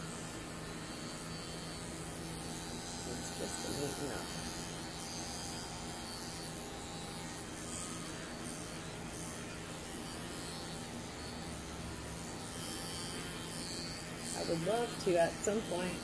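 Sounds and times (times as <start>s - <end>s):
electric clippers buzzing: 0.0s - 16.0s.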